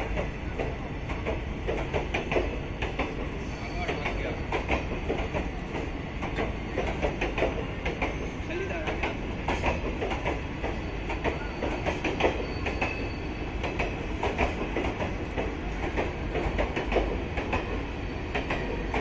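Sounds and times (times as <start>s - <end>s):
train coaches rumbling past: 0.0s - 19.0s
wheels clicking over rail joints: 0.0s - 19.0s.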